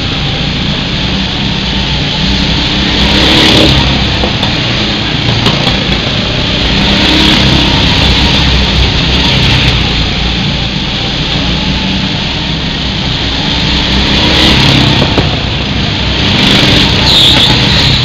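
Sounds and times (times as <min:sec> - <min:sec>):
go-kart engines passing: 0:00.0 - 0:18.0.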